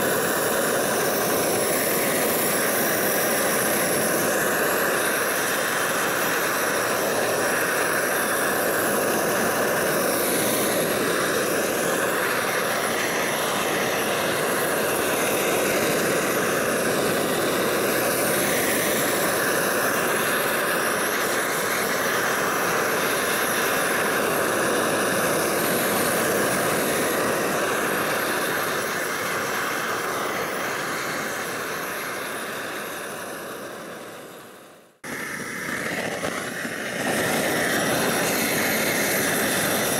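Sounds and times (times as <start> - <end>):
propane torch hissing: 0.0 - 39.9.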